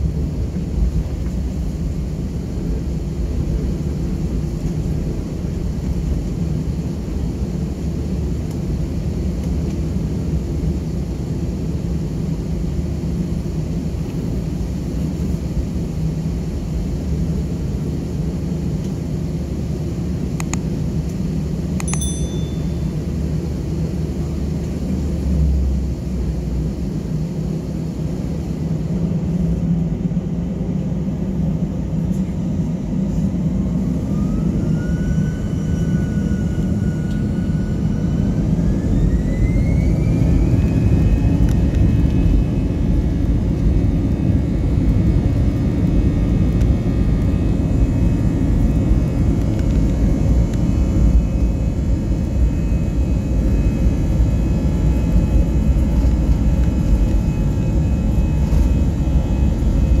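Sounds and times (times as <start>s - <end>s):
jet engines whining: 0.0s - 60.0s
low rumble of takeoff roll: 0.0s - 60.0s.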